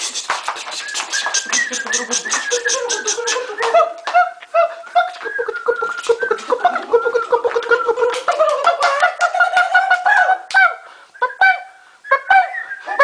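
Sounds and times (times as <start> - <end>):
mouth clicks: 0.0 - 10.7
comic mouth hoots and squeaks: 0.0 - 10.8.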